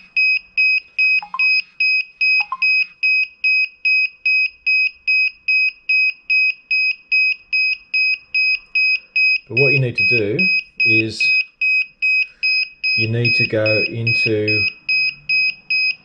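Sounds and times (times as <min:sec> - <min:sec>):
high-pitched repeated beeping: 0:00.0 - 0:16.0.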